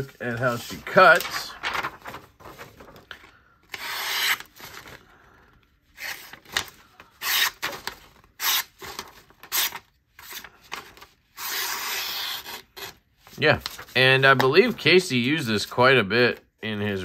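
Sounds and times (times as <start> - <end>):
paper rustling: 0.0 - 11.2, 12.5 - 15.8.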